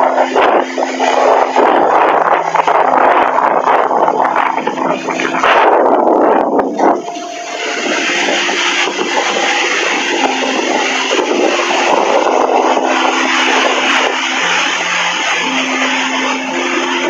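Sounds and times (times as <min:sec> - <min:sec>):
soft held musical notes: 0:00.0 - 0:17.0
waves breaking on shore: 0:00.0 - 0:17.0.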